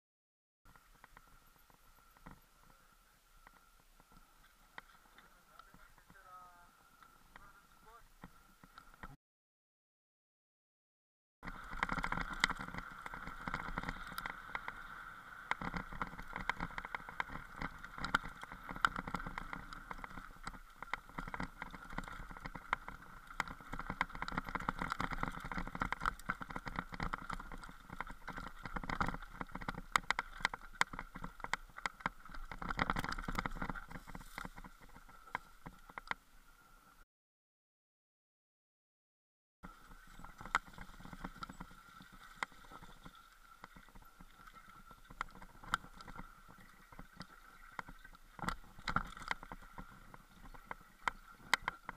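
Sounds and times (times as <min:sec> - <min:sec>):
bike wheels rattling over stones: 0:00.7 - 0:09.1, 0:11.4 - 0:36.3, 0:39.6 - 0:51.9.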